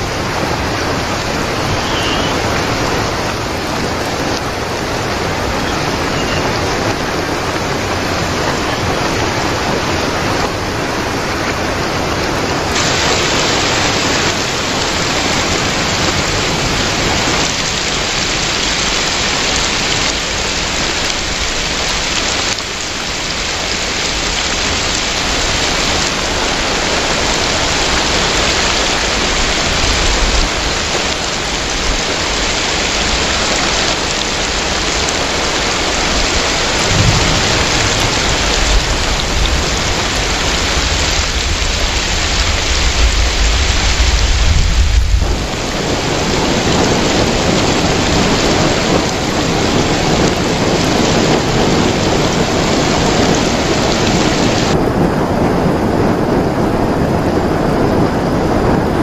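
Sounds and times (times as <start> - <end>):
heavy rain splashing into water: 0.0 - 59.0.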